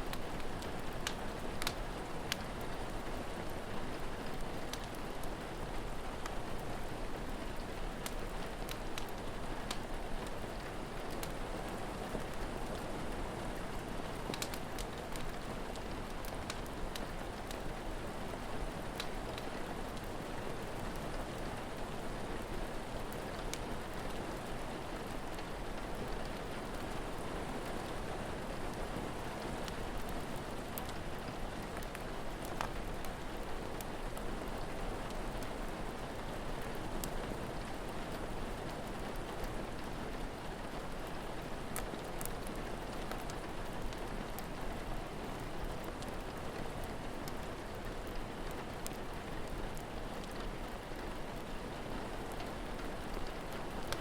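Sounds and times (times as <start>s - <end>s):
rain falling: 0.0s - 54.0s
wood fire crackling: 0.1s - 54.0s.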